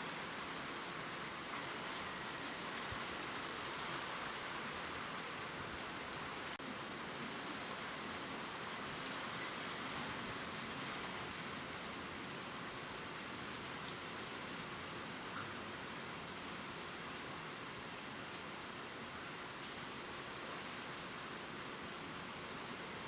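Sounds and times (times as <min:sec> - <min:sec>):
rain pattering on leaves: 0:00.0 - 0:23.0.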